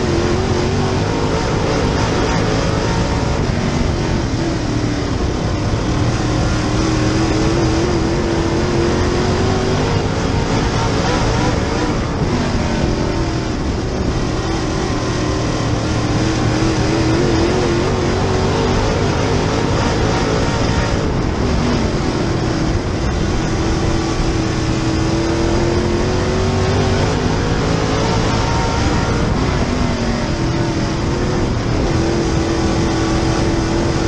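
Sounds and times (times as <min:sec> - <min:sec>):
race car engine revving: 0:00.0 - 0:34.0.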